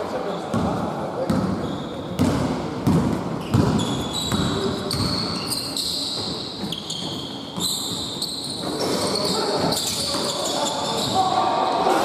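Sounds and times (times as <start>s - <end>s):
sneakers squeaking on floor: 0.3s - 12.0s
basketball bouncing on court: 0.5s - 10.4s.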